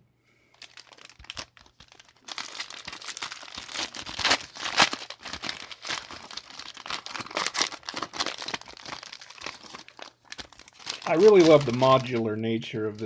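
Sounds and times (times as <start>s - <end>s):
wrappers crinkling: 0.5s - 13.0s.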